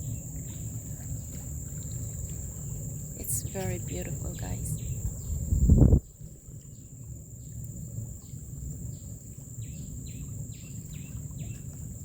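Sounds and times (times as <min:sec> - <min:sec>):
insects droning: 0:00.0 - 0:12.0
low background rumble: 0:00.0 - 0:12.0.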